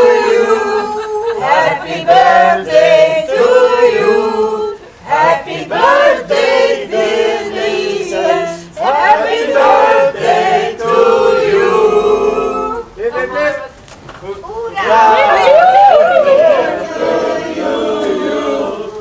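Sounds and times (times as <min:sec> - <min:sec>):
voices singing together: 0:00.0 - 0:13.0, 0:14.7 - 0:19.0.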